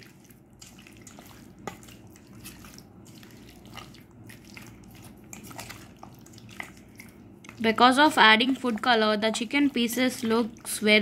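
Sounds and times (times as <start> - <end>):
chicken squelching in marinade: 0.0 - 10.9.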